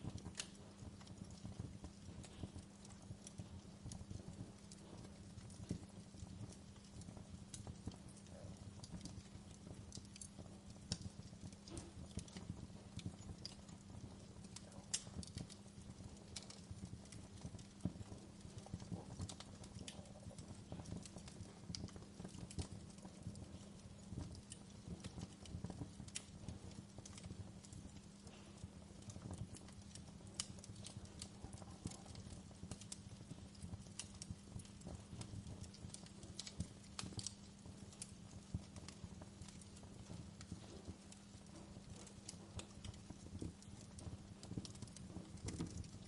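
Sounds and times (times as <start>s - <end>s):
firewood crackling and popping: 0.0s - 46.0s
low rumble of flames: 0.0s - 46.0s.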